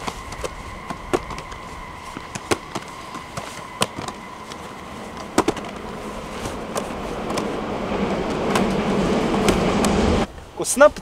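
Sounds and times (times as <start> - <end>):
low rushing noise: 0.0 - 11.0.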